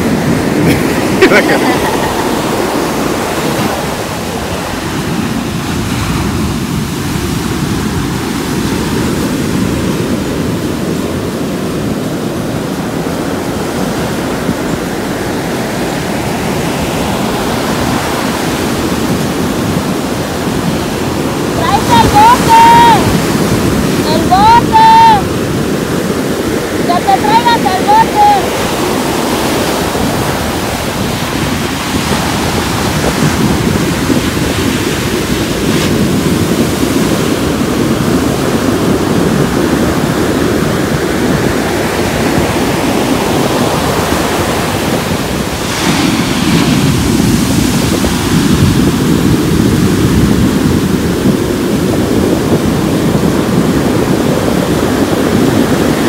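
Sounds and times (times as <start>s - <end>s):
ocean waves breaking on beach: 0.0s - 56.0s
wind buffeting microphone: 0.0s - 56.0s.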